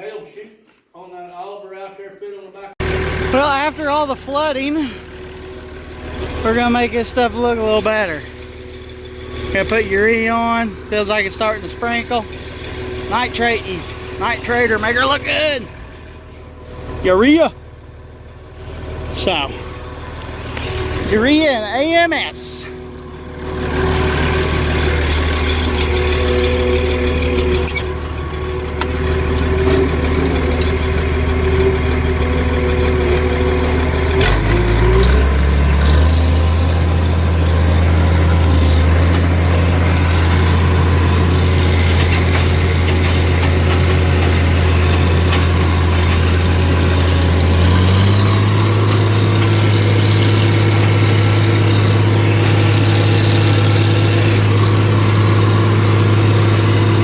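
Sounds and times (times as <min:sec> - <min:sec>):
tractor diesel engine running: 0:02.8 - 0:57.0.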